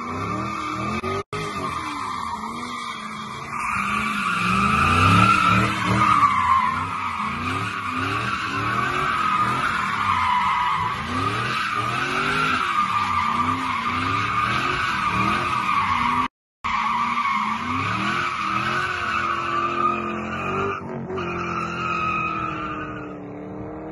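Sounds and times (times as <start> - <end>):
car engine revving: 0.0 - 16.3, 17.0 - 23.9.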